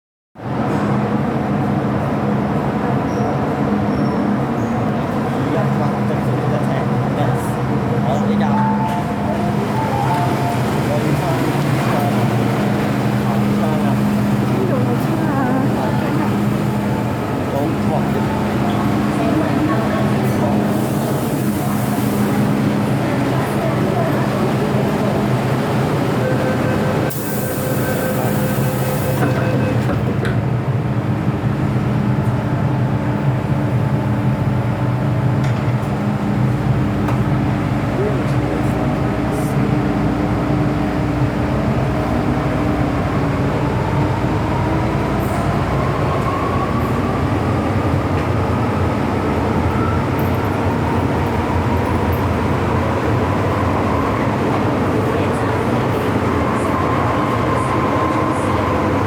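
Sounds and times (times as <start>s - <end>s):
train rumble and wheel noise: 0.4s - 59.0s.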